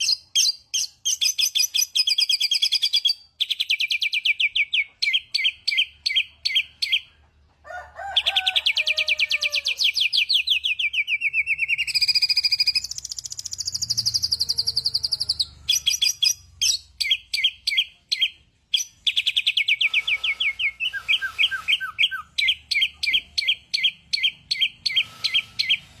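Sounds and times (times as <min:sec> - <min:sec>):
songbird singing: 0:00.0 - 0:26.0.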